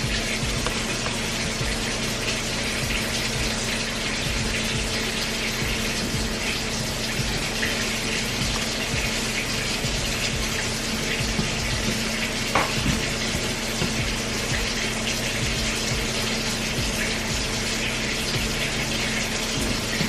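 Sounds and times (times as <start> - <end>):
tap running into sink: 0.0 - 20.0.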